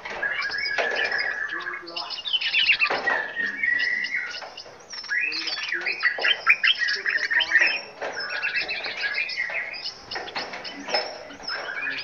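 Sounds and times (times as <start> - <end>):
small birds singing and chirping: 0.0 - 12.0.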